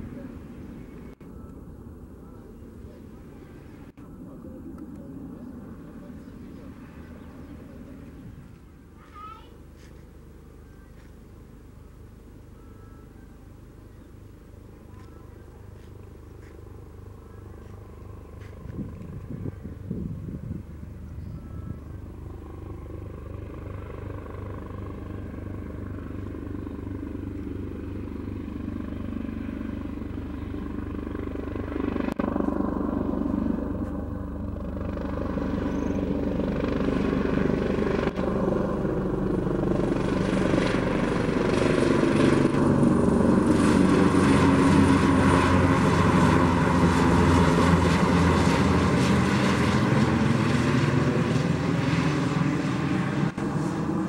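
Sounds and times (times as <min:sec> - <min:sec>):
helicopter flying low: 0:00.0 - 0:54.0.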